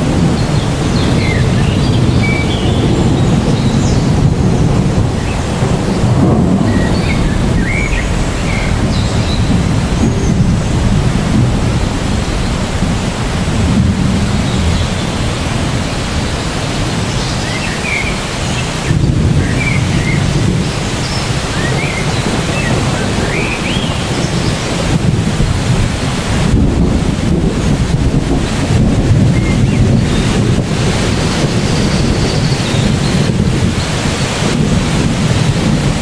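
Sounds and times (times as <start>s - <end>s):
heavy rain on trees: 0.0s - 36.0s.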